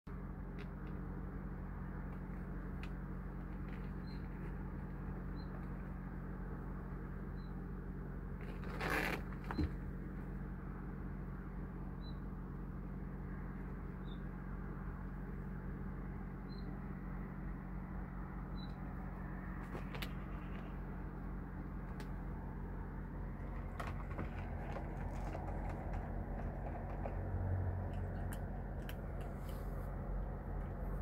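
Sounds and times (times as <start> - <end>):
low hum: 0.1 - 31.0.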